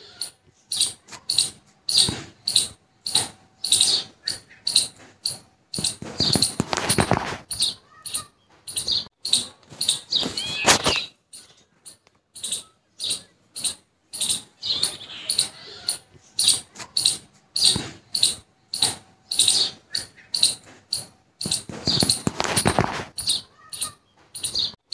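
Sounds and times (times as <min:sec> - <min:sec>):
ducklings peeping: 0:00.0 - 0:24.8.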